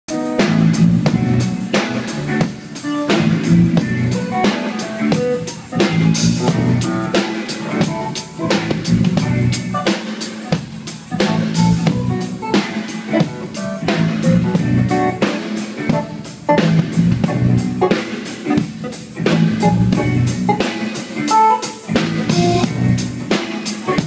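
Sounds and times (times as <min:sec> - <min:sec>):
drum kit beat: 0:00.1 - 0:24.0
guitar playing: 0:00.1 - 0:24.0.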